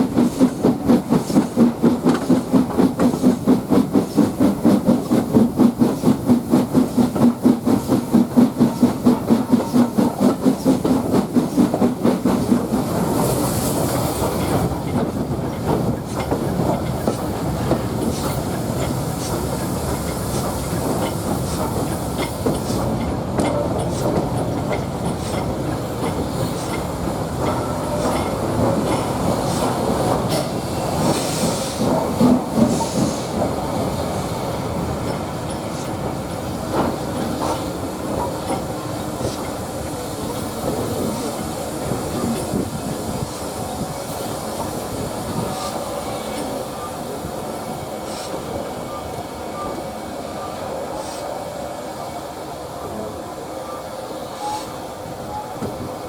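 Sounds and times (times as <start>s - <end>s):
steam hiss: 0.0s - 23.0s, 23.7s - 56.0s
rail joint clicks: 0.0s - 51.5s, 52.9s - 56.0s
steam locomotive rhythmic beat: 0.0s - 51.6s.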